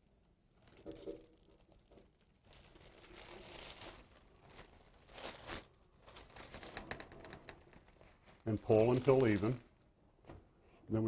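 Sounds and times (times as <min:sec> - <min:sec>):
plastic film crinkling: 0:00.6 - 0:09.8.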